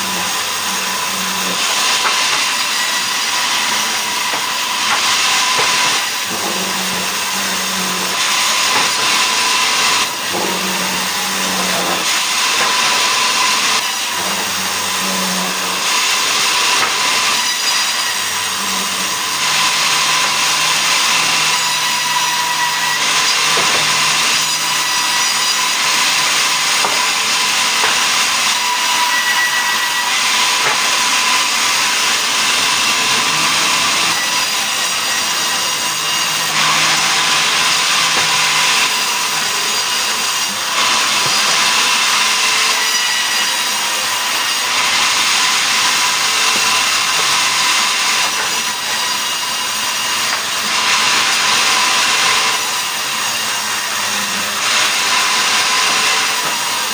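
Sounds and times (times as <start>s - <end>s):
sawmill saw cutting wood: 0.0s - 56.9s.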